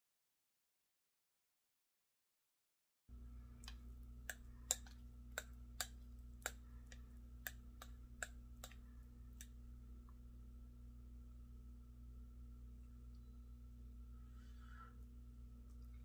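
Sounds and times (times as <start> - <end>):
faint low hum: 3.1 - 16.0.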